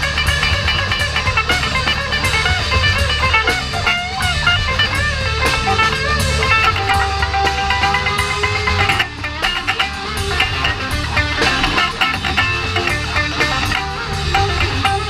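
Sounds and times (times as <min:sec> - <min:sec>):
bass guitar: 0:00.0 - 0:15.0
drums: 0:00.0 - 0:15.0
electric guitar lead with bends: 0:00.0 - 0:15.0.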